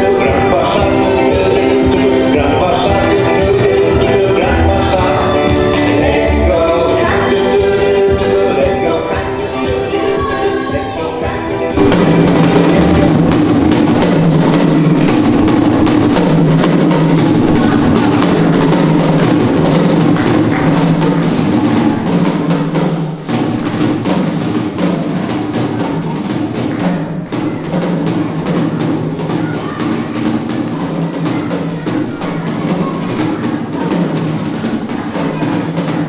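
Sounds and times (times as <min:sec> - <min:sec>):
upbeat children's dance music: 0:00.0 - 0:36.0.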